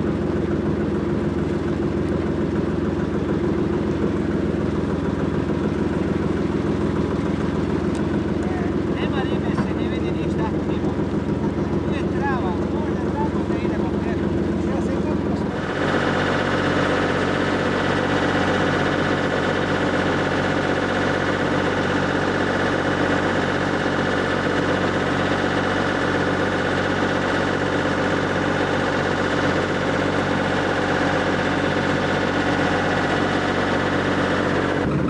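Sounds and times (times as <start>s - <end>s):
motorboat engine droning: 0.0s - 35.0s.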